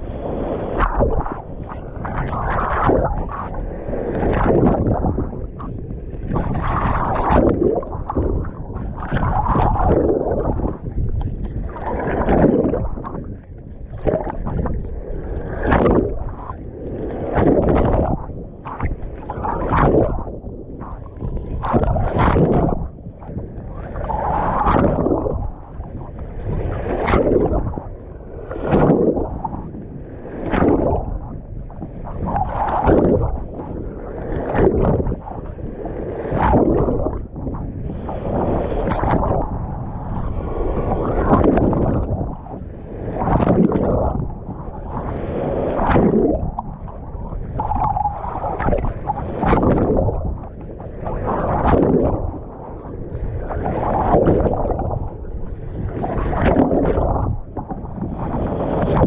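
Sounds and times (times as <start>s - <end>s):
big waves surging and splashing: 0.0s - 59.0s
steady low rumble: 0.0s - 59.0s.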